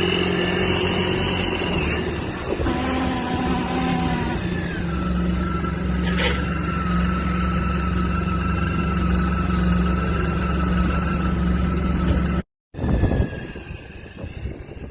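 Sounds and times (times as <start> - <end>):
scooter engine running: 0.0 - 14.9.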